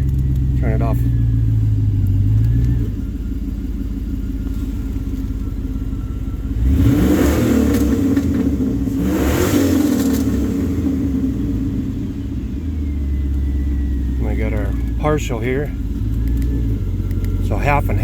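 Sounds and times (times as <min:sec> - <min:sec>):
car engine exhaust idling and revving: 0:00.0 - 0:18.0.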